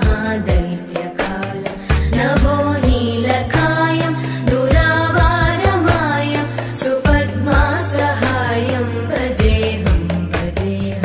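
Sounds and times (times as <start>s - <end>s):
drum beats: 0.0s - 11.0s
person singing: 0.0s - 11.0s
held bass notes: 1.9s - 11.0s.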